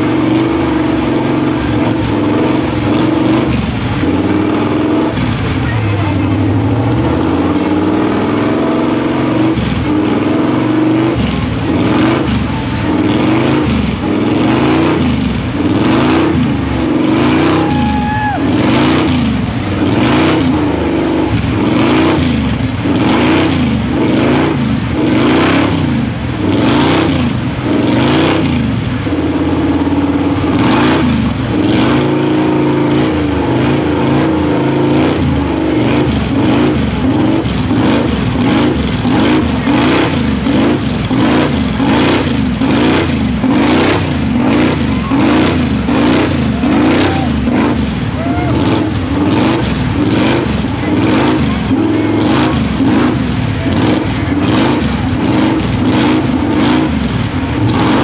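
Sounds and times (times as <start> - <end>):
tires spinning throwing mud: 0.0 - 5.7, 6.3 - 58.0
truck engine revving: 0.0 - 58.0.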